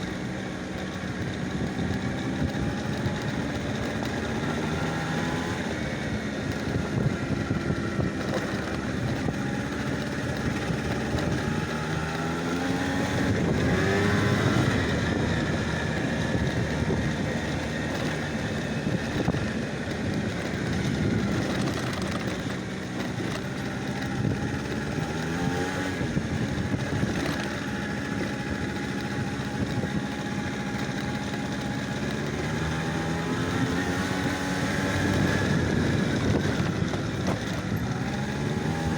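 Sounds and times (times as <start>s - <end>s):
vehicle engine running and revving: 0.0s - 38.9s.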